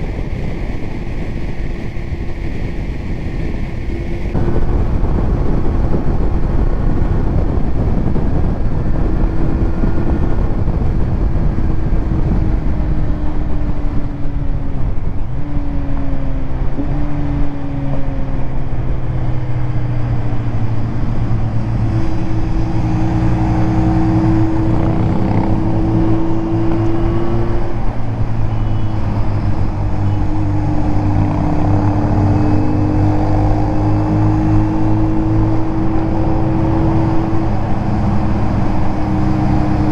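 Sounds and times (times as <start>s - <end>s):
motorcycle engine on the move: 0.0s - 39.9s
wind rumble: 0.0s - 39.9s.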